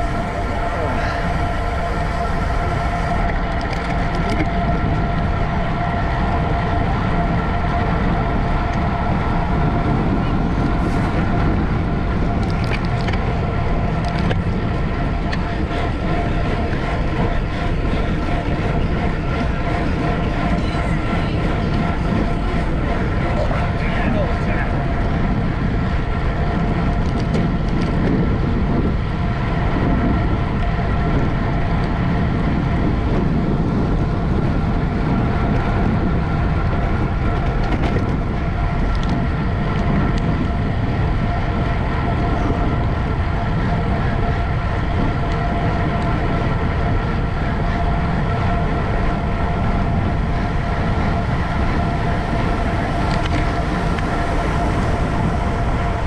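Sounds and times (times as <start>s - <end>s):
bicycle road rumble: 0.0s - 56.0s
faint drivetrain whine: 0.0s - 56.0s
wind rushing: 0.0s - 56.0s.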